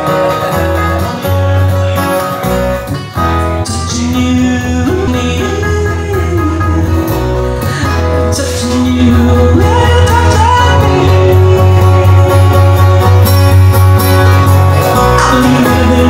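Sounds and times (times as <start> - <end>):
person singing: 0.0 - 13.3, 14.5 - 16.0
live band playing: 0.0 - 16.0
steady bass line: 0.0 - 16.0.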